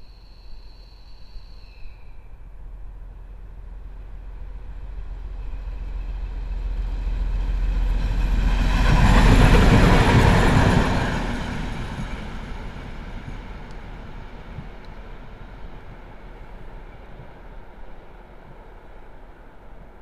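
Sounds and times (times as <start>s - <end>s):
diesel locomotive engines: 0.0s - 20.0s
train wheels on rails: 3.9s - 20.0s.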